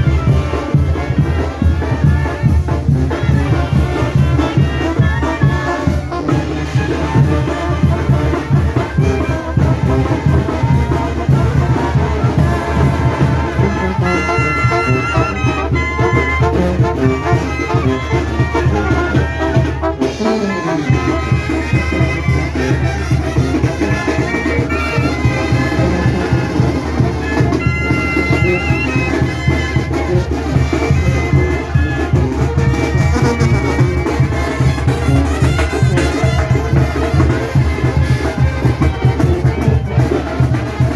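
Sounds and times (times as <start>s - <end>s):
brass band playing: 0.0s - 40.9s.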